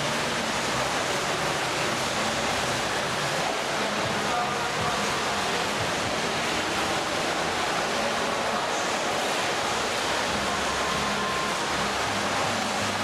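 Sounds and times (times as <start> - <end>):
swimmers splashing water: 0.0 - 13.0.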